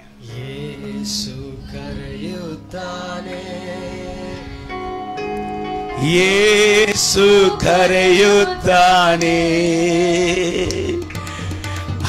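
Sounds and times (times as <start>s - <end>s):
instrumental held chords and melody: 0.0s - 12.0s.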